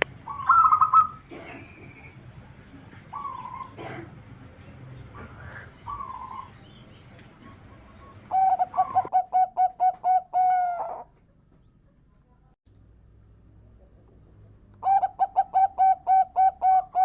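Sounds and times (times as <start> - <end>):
dove cooing song: 0.0 - 11.9, 14.8 - 17.0.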